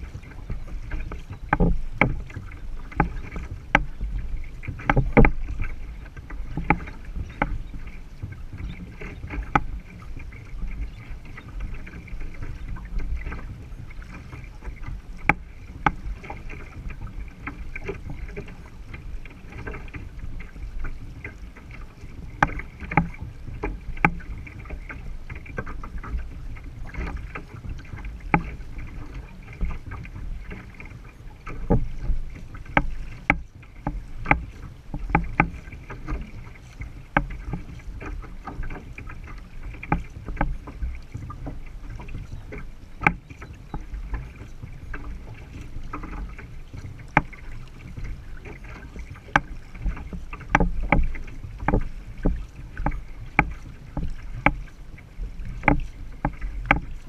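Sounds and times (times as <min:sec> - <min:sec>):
paddles stroking through water: 0:00.0 - 0:57.0
water slapping against hull: 0:00.0 - 0:57.0.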